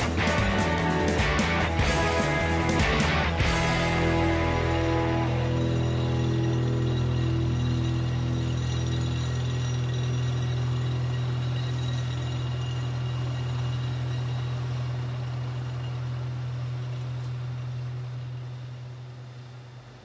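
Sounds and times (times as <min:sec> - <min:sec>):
heavy machinery low drone: 0:00.0 - 0:20.0.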